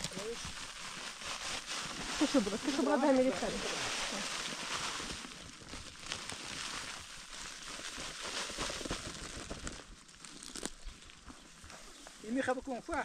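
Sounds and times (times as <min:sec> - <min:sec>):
light crackles: 0:00.0 - 0:13.0
rustling: 0:00.0 - 0:13.0.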